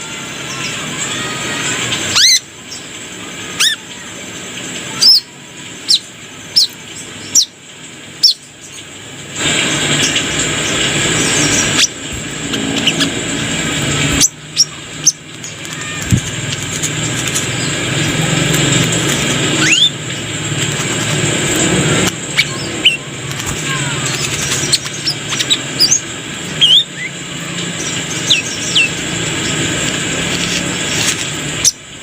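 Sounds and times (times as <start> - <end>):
bird chirping: 0.0 - 31.9.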